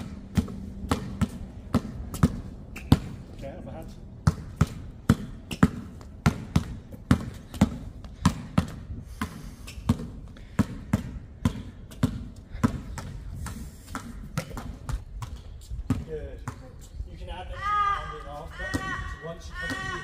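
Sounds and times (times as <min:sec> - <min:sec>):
basketball bouncing on court: 0:00.0 - 0:03.4, 0:04.2 - 0:16.8, 0:18.6 - 0:19.0, 0:19.6 - 0:20.0.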